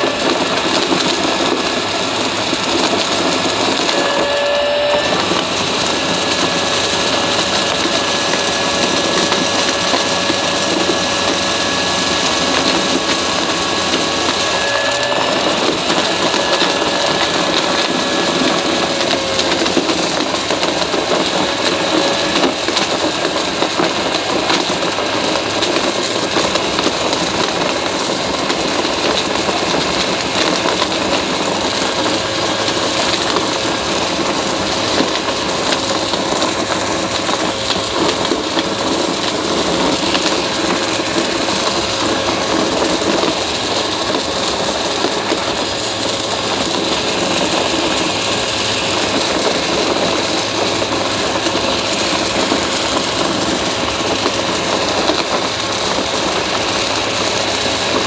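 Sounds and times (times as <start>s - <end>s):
debris crackling being sucked up: 0.0s - 58.0s
vacuum cleaner running: 0.0s - 58.0s.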